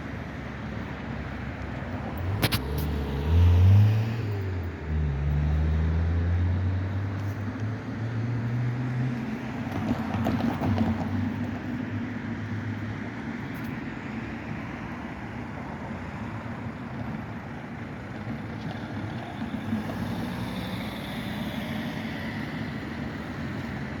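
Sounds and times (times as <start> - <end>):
steady traffic noise: 0.0 - 24.0.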